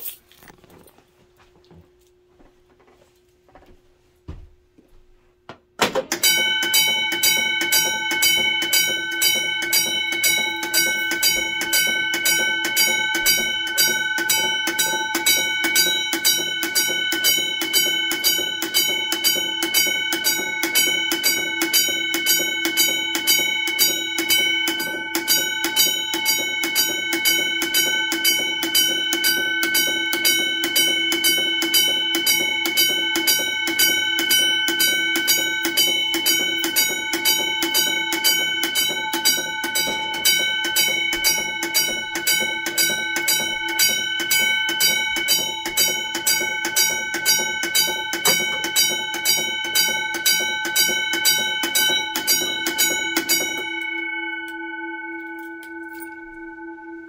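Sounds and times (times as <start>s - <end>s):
fire alarm bells ringing: 5.8s - 57.0s.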